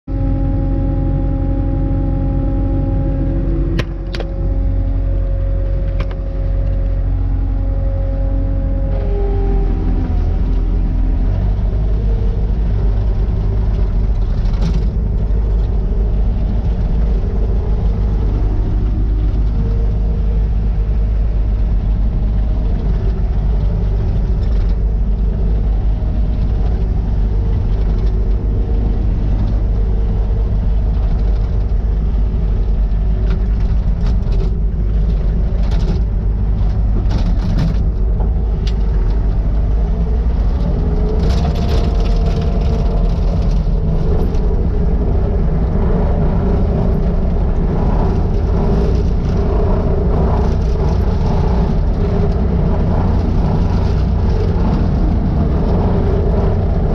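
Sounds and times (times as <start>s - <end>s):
diesel engine running: 0.0s - 56.9s
pitched engine whine: 0.0s - 56.9s.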